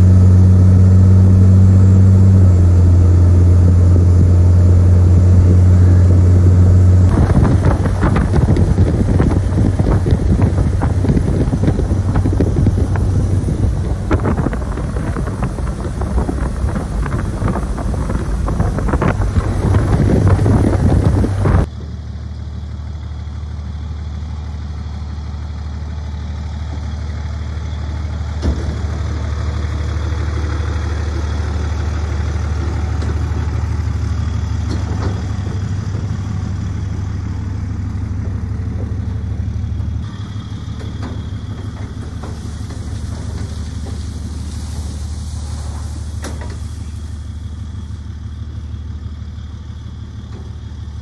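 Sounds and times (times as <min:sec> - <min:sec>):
wind and road noise: 0:00.0 - 0:22.0, 0:26.1 - 0:51.0
truck engine idling: 0:00.0 - 0:51.0.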